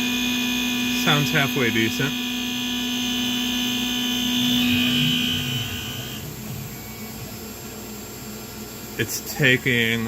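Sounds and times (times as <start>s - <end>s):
low machine hum: 0.0s - 10.0s
milling machine cutting whine: 0.0s - 10.0s.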